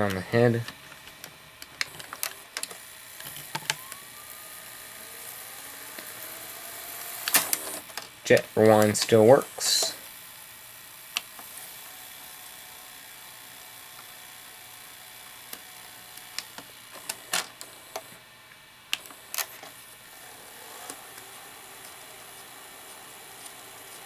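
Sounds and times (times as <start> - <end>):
tape reels whirring: 0.0 - 18.3, 18.9 - 24.0.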